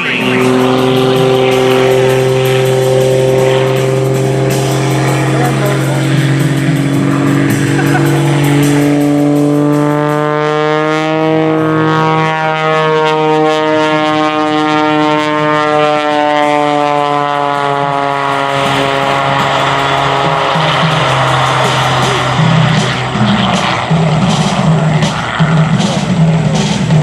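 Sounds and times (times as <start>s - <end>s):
aerobatic plane engine screaming: 0.0s - 27.0s.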